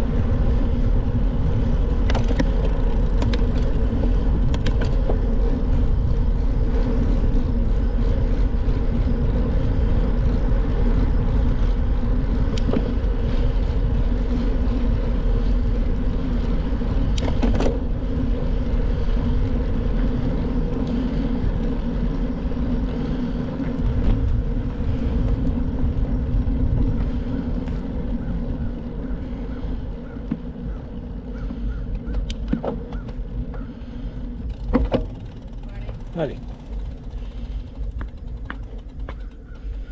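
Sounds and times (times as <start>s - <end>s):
bicycle tyre noise: 0.0s - 39.9s
wind on microphone: 0.0s - 39.9s.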